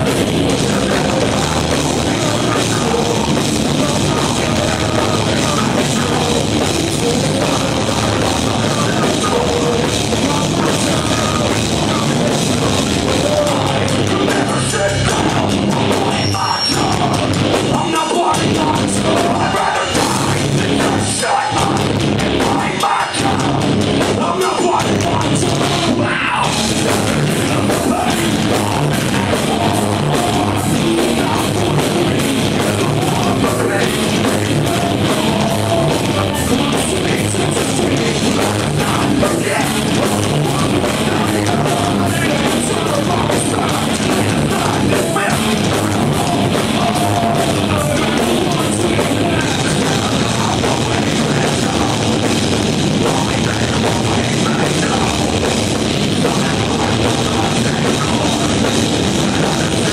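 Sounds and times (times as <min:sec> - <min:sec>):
drums: 0:00.0 - 0:59.9
heavy metal band playing: 0:00.0 - 0:59.9
vocalist singing into a microphone: 0:00.0 - 0:59.9.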